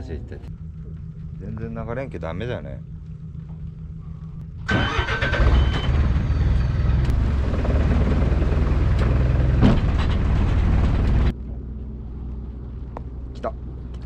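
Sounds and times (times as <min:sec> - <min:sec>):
motorboat engine running: 0:00.0 - 0:04.7, 0:05.3 - 0:14.0
wind: 0:00.0 - 0:14.0.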